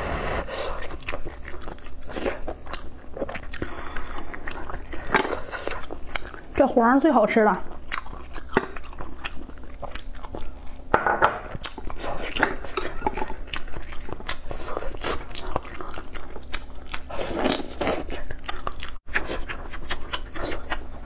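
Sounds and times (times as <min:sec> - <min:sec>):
chewing: 0:00.4 - 0:10.9, 0:11.5 - 0:21.0.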